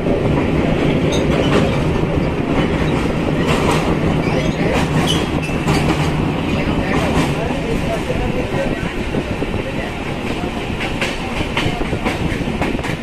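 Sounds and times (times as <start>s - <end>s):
train rumble and hum: 0.0s - 13.0s
wheels clacking over rail joints: 0.0s - 13.0s.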